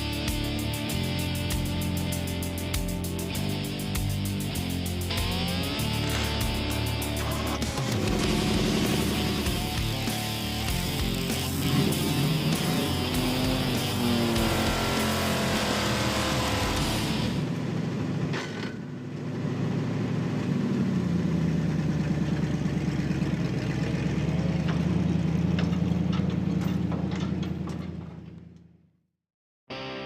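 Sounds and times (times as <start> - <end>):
vehicle engine running: 0.0 - 28.8.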